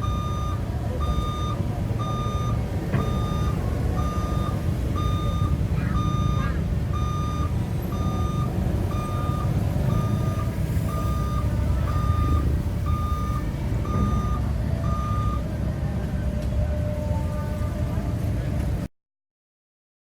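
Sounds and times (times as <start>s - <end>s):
excavator warning alarm beeping: 0.0s - 17.8s
diesel engine running: 0.0s - 18.9s.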